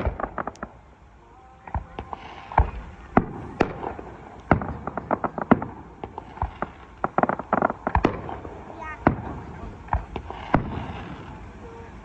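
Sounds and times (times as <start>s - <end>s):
firework booms: 0.0s - 0.8s, 1.6s - 11.6s
crackling pops: 0.0s - 0.9s, 1.7s - 11.3s.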